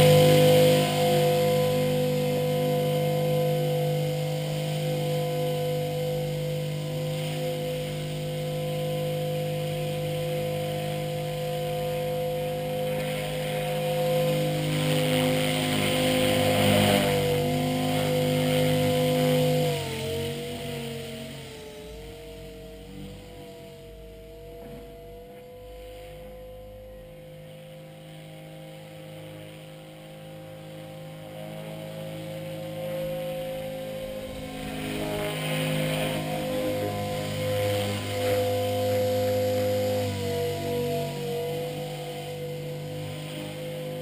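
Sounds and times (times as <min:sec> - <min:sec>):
rc helicopter rotor whining: 0:00.0 - 0:44.0.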